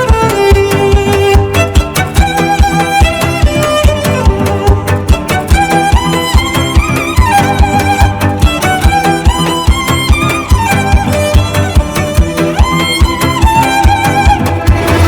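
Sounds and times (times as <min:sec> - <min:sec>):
driving beat: 0:00.0 - 0:15.0
violin melody: 0:00.0 - 0:15.0.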